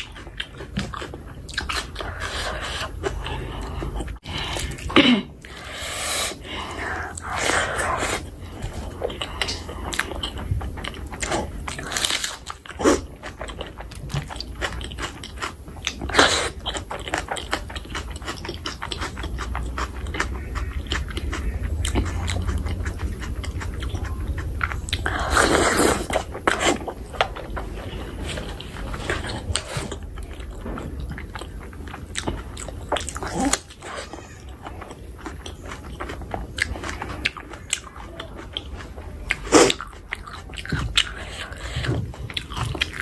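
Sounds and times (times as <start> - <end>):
close chewing: 0.0 - 43.0.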